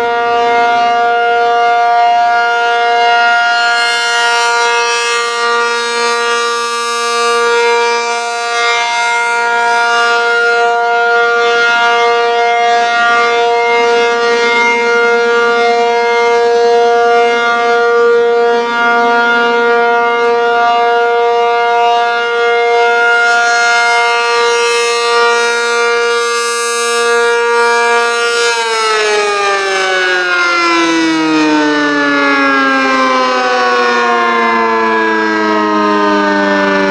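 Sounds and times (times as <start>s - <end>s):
rotating warning siren steady tone: 0.0s - 36.9s.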